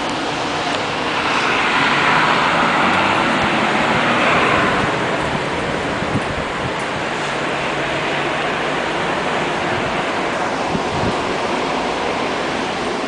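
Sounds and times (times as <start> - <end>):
traffic hiss on wet streets: 0.0 - 13.0.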